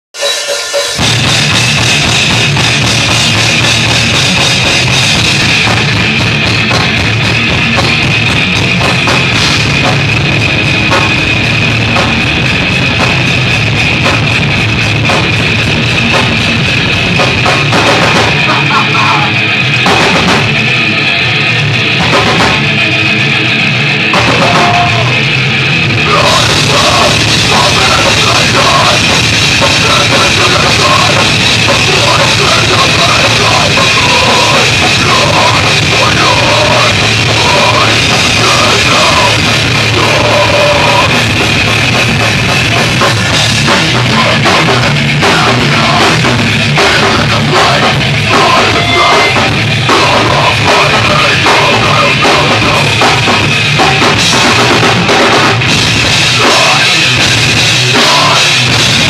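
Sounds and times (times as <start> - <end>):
distorted electric guitars: 0.0 - 59.0
bass guitar: 0.1 - 59.0
drum kit: 0.1 - 59.0.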